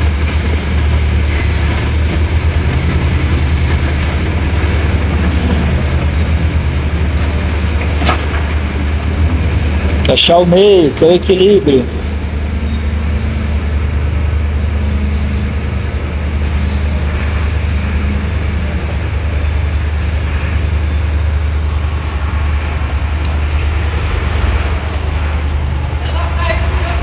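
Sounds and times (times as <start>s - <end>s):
forklift engine running: 0.0s - 27.0s.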